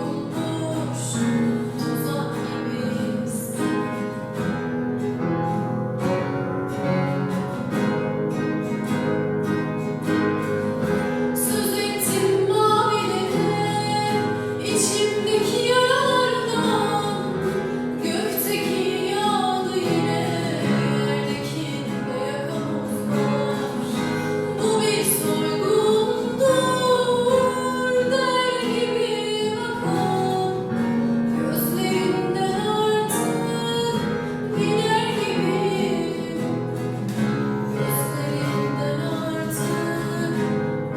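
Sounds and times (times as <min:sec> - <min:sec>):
woman singing: 0:00.0 - 0:04.3, 0:10.8 - 0:40.9
acoustic guitar: 0:00.0 - 0:40.9.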